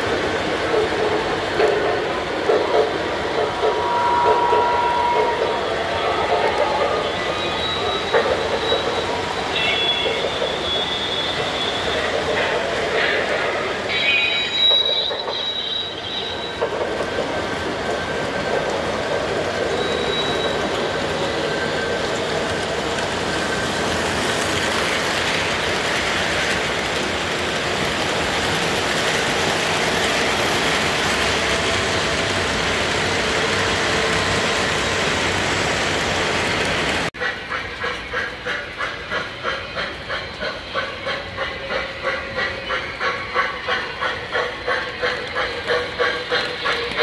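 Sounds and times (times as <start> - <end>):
model train wheels clattering on rails: 0.0 - 3.8, 6.3 - 13.9, 14.7 - 34.5, 36.4 - 47.0
model steam locomotive chuffing: 0.0 - 47.0.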